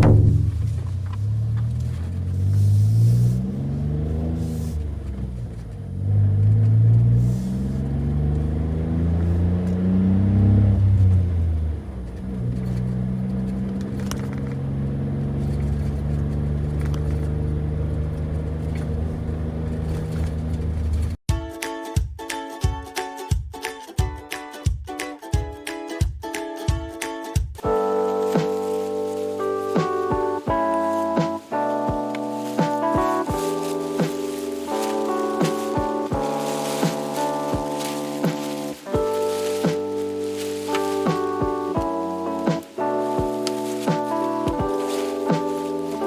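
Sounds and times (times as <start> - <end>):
car engine revving: 0.0 - 21.2, 27.6 - 46.0.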